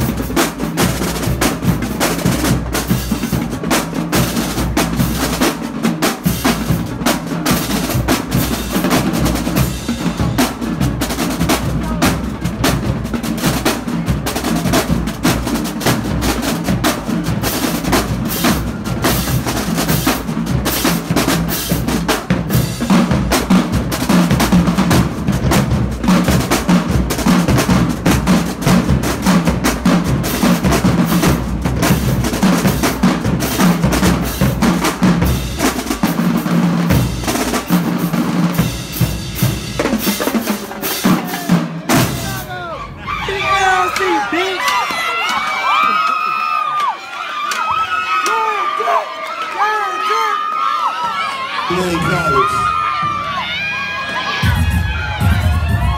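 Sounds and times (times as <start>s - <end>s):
bass drums beating: 0.0s - 45.3s, 52.0s - 55.9s
snare drums rolling: 0.0s - 48.4s, 51.6s - 55.9s.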